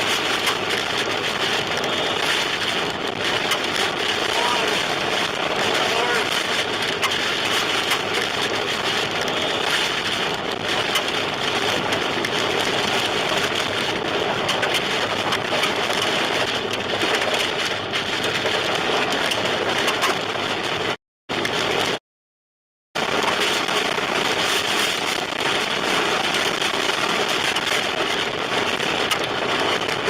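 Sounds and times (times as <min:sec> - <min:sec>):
heavy rain on a car: 0:00.0 - 0:22.0, 0:23.0 - 0:30.0
wind noise: 0:00.0 - 0:22.0, 0:23.0 - 0:30.0.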